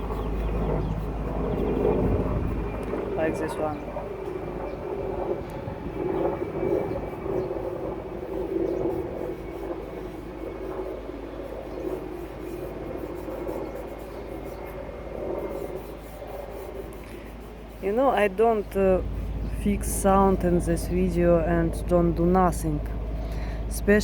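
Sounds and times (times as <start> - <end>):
distant vehicle drone: 0.0 - 24.0.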